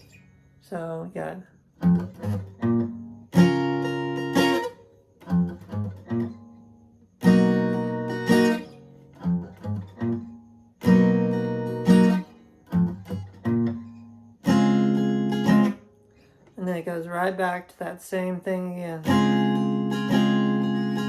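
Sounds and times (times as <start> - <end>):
guitar riff with strummed chords: 0.7 - 16.0, 18.5 - 21.0.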